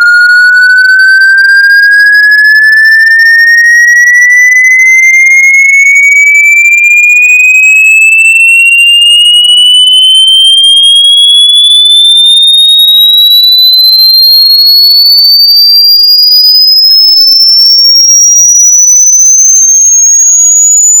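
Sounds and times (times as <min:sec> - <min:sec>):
electronic whistle gliding upward: 0:00.0 - 0:21.0.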